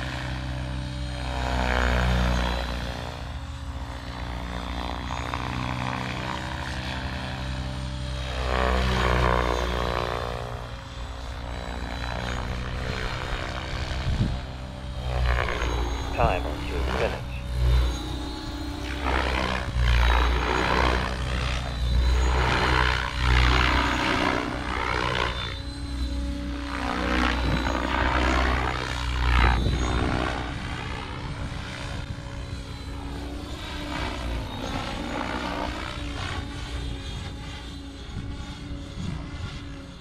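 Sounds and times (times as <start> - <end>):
electric motor whine: 0.0 - 40.0
rotor blades whooshing: 5.4 - 39.5.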